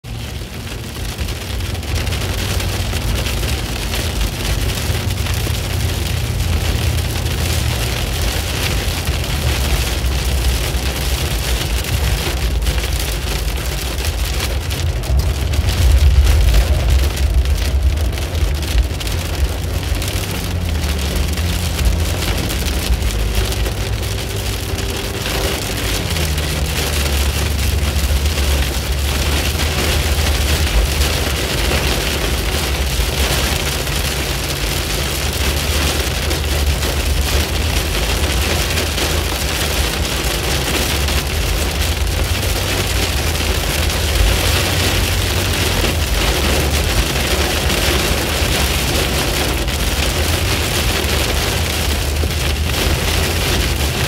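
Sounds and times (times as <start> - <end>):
car driving on wet road: 0.0 - 54.0
heavy rain on car roof: 0.0 - 54.0.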